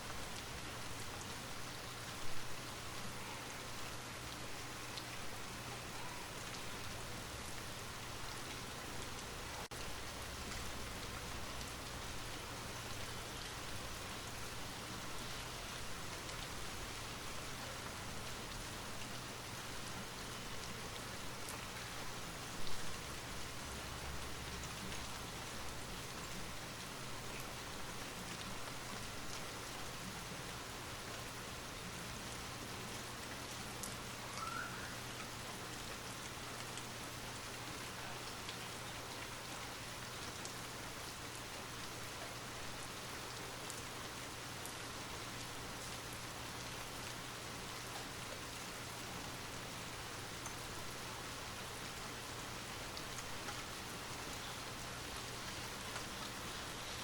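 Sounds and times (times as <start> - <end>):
light rain pattering: 0.0 - 57.0.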